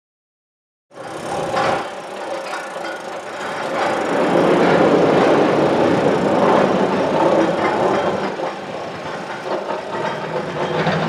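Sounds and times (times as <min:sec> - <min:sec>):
excavator rumbling: 0:01.0 - 0:11.0.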